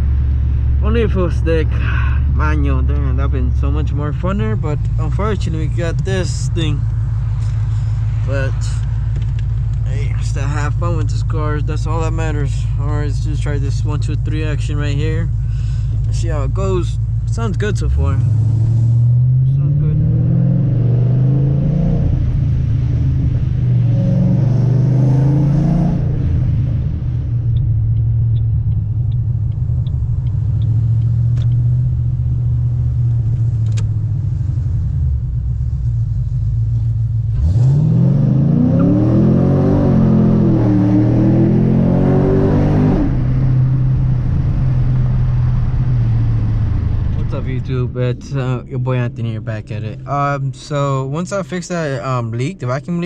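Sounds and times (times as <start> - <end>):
car exhaust rumbling and revving: 0.0 - 53.0.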